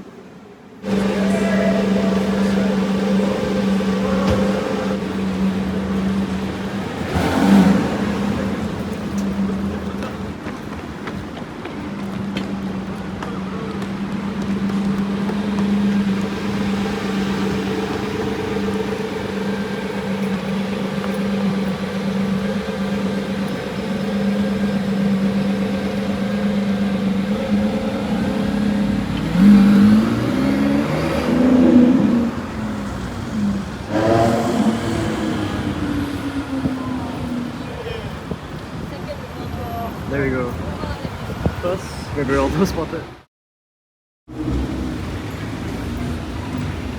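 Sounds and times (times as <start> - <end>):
car engine idling and revving: 0.2 - 43.2, 44.3 - 46.9.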